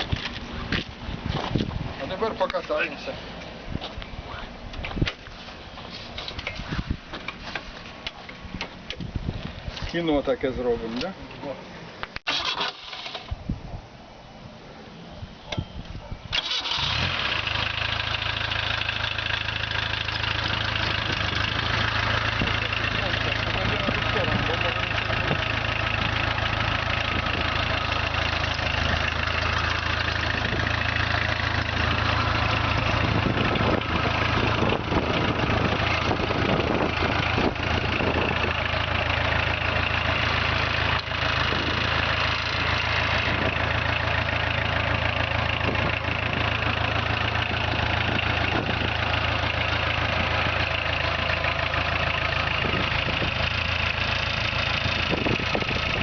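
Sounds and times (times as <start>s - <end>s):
tractor diesel engine running: 0.0s - 11.2s, 12.2s - 13.6s, 14.6s - 56.0s.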